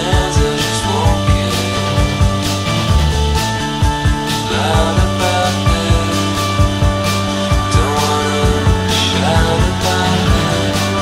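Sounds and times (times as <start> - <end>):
rock song: 0.0 - 11.0.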